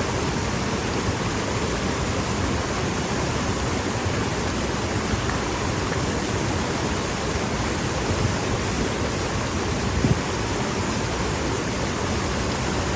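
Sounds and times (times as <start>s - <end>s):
creek water rushing: 0.0s - 12.9s.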